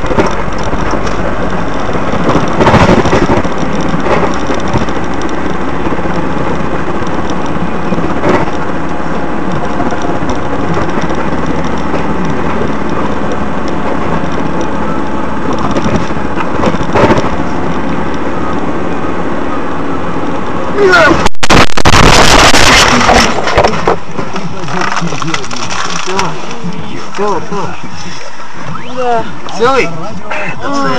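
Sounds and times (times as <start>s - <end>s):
vehicle road noise rumbling: 0.0s - 30.9s.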